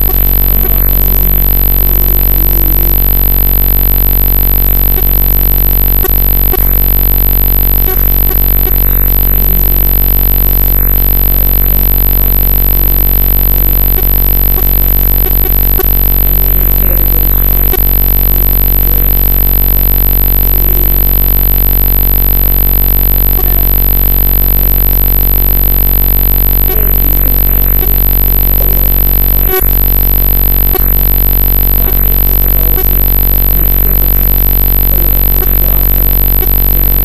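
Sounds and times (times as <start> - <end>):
electronic buzz with whine: 0.0 - 37.0.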